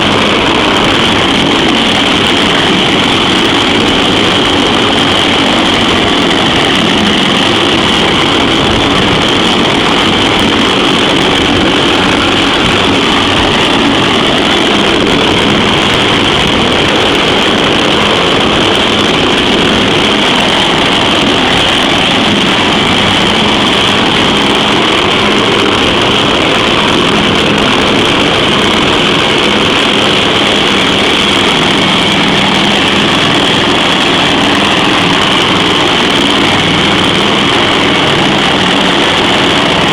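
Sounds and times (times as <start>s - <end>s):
helicopter engines running: 0.0s - 39.9s
high turbine whine: 0.0s - 39.9s.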